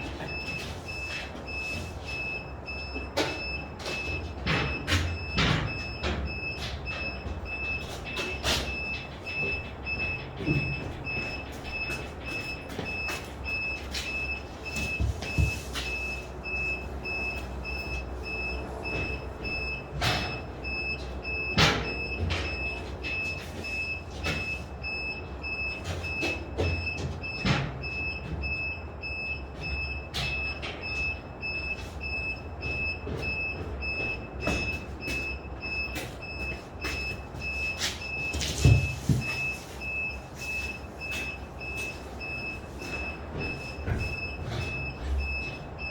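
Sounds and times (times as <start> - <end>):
machine warning beeper: 0.0 - 45.9.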